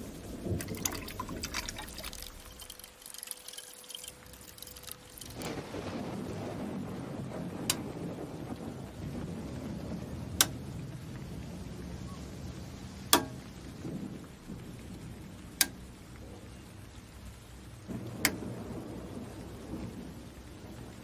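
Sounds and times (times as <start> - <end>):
steady low rumble: 0.0 - 3.2, 4.1 - 21.0.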